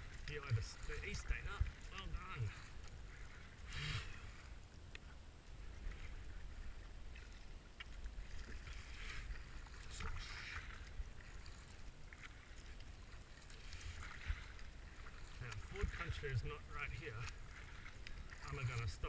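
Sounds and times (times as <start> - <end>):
kayak paddle splashing: 0.0 - 19.0
low rumble of water and hull: 0.0 - 19.0.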